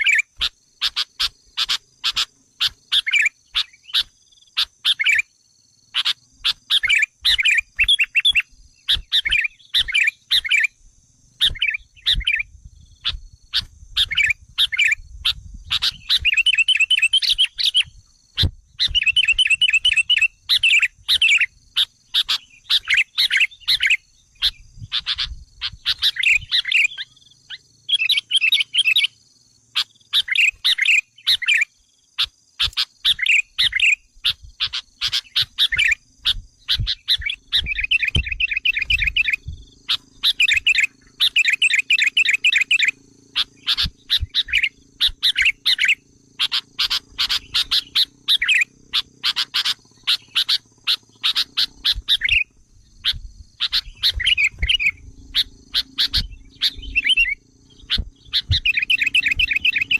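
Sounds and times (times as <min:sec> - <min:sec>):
bulbul chattering calls: 0:00.0 - 0:05.3, 0:05.9 - 0:10.8, 0:11.4 - 0:59.9.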